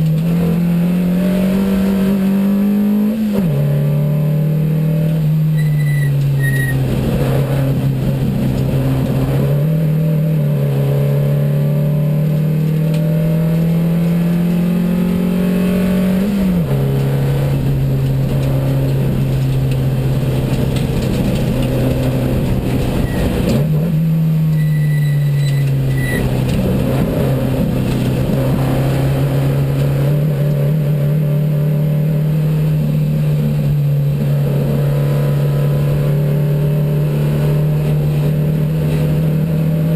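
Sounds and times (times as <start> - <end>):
racing car engine running hard: 0.0 - 39.9.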